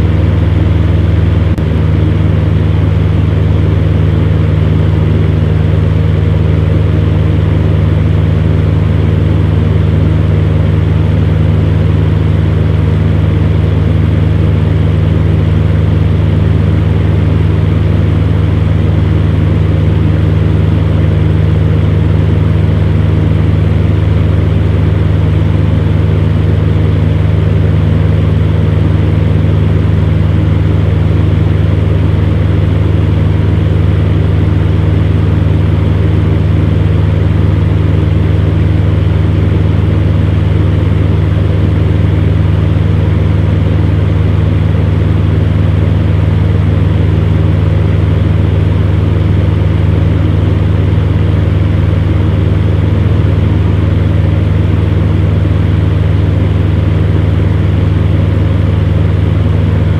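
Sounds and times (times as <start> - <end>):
fan heater motor hum: 0.0 - 59.9.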